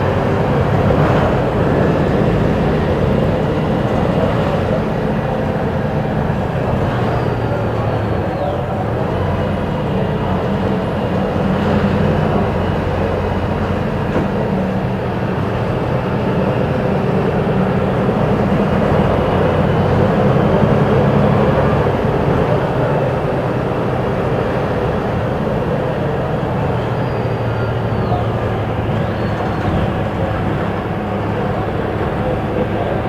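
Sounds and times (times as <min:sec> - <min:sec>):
bus diesel engine drone: 0:00.0 - 0:33.0
road noise: 0:00.0 - 0:33.0.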